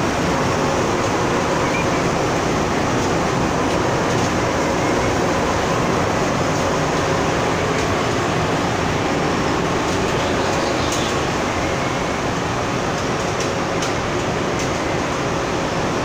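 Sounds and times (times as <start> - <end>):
industrial machine running: 0.0 - 16.0.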